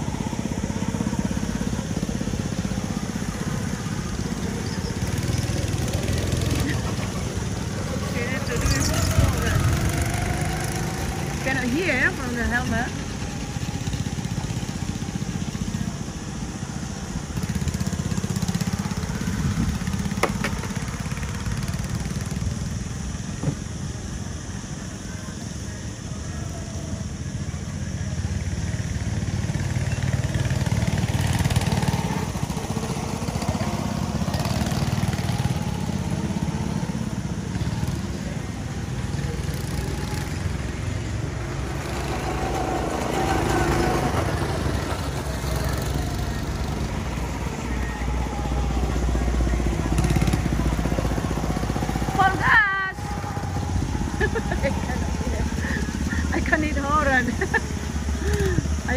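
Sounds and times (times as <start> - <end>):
go-kart engines buzzing: 0.0 - 58.9.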